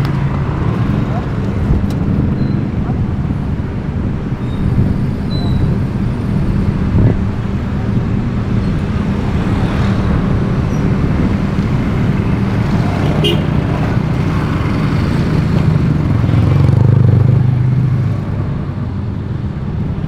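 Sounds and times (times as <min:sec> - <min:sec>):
motor scooters running: 0:00.0 - 0:19.0
traffic engine drone: 0:00.0 - 0:20.0.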